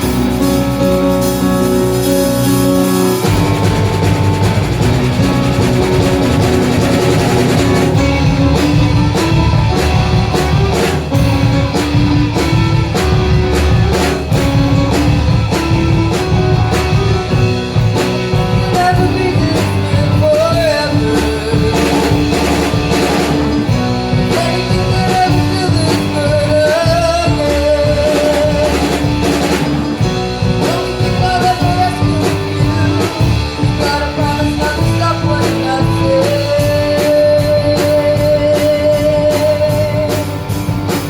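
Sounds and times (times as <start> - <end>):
drum kit beat: 0.0 - 41.0
rock band playing: 0.0 - 41.0.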